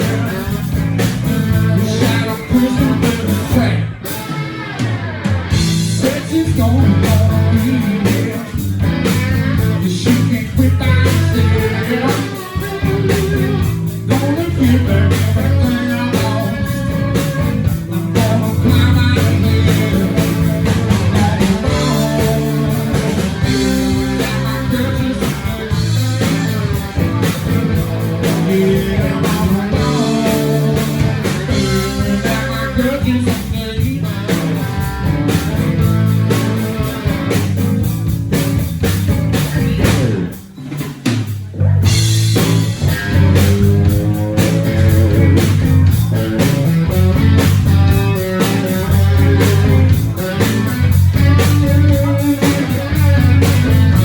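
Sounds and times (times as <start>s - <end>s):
blues-rock band playing: 0.0s - 54.0s.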